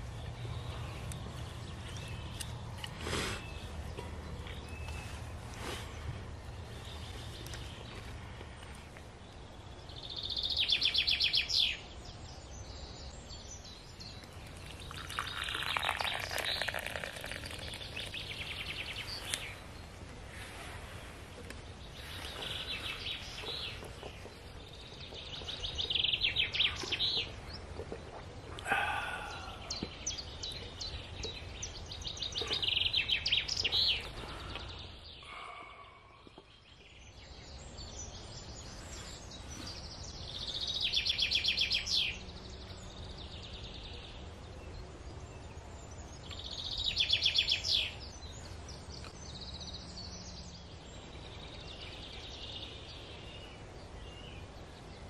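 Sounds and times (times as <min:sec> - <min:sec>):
low steady background noise: 0:00.0 - 0:55.0
songbirds singing: 0:00.0 - 0:55.0.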